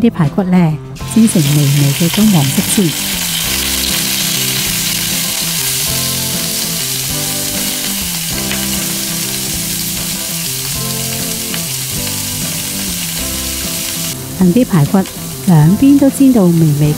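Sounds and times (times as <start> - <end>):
soft background music: 0.0 - 16.9
meat sizzling in a wok: 1.0 - 16.9.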